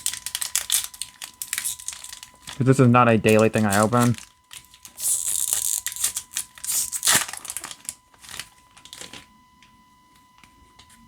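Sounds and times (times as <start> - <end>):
plastic wrapper crinkling and tearing: 0.0 - 9.3.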